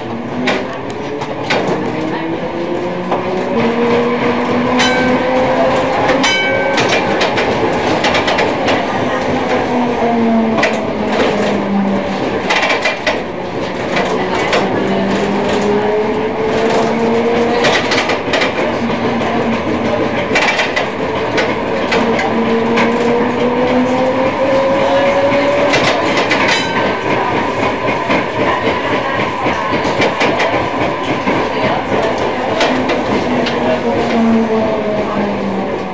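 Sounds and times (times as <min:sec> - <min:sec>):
tram motor whine: 0:00.0 - 0:35.9
wheels clattering on rails: 0:00.0 - 0:35.9.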